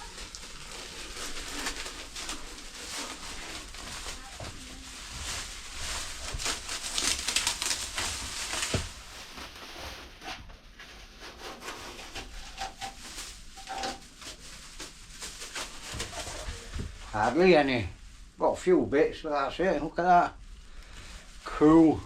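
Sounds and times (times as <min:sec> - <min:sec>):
plastic sheet crinkling: 0:00.0 - 0:18.0.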